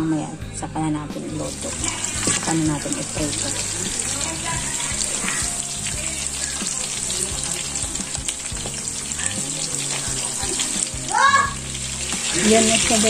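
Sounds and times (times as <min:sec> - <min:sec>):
fish frying in hot oil: 0:01.3 - 0:13.0.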